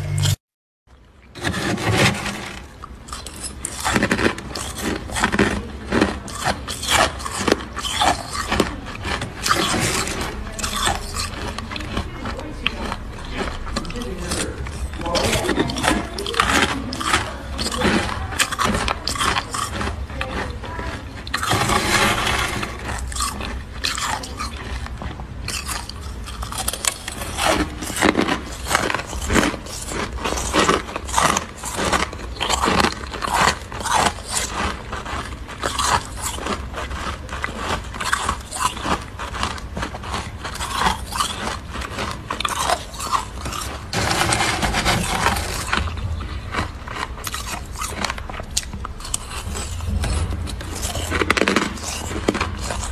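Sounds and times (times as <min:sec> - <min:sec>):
frost crunching in bites: 0:01.3 - 0:52.9
metal spoon scraping frost: 0:01.4 - 0:36.6, 0:40.5 - 0:52.9.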